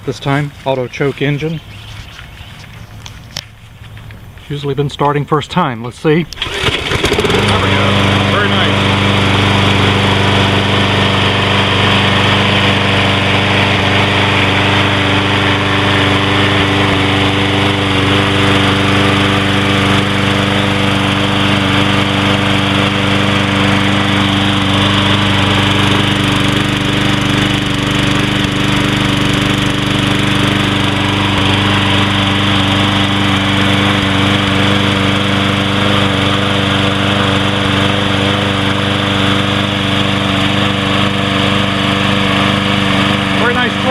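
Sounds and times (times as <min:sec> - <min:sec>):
lawn mower engine running: 0:00.0 - 0:05.0, 0:06.0 - 0:43.9.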